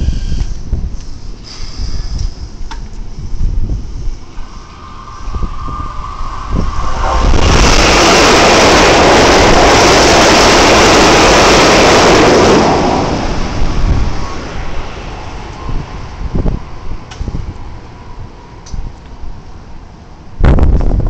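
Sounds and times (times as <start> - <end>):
train rushing past: 3.2 - 20.4.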